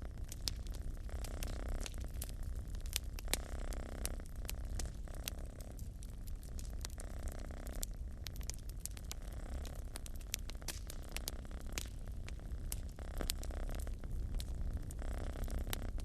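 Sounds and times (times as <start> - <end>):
cat purring: 0.0 - 16.0
wood fire crackling and popping: 0.0 - 16.0.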